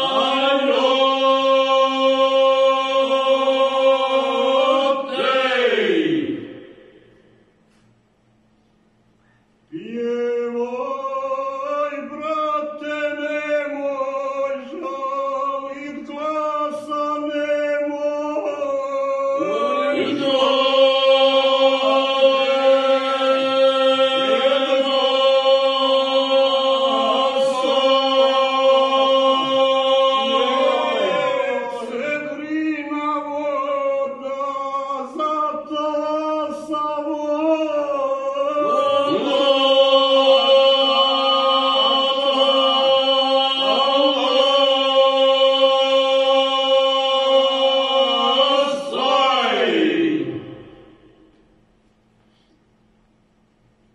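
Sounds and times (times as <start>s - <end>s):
men singing in close harmony: 0.0s - 6.5s, 9.8s - 51.2s.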